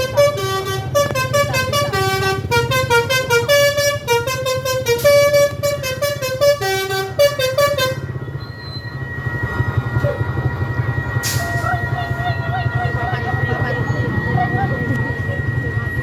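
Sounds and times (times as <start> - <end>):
bus horn playing tune: 0.0 - 9.2, 11.2 - 15.0
bus engine running: 0.0 - 16.0.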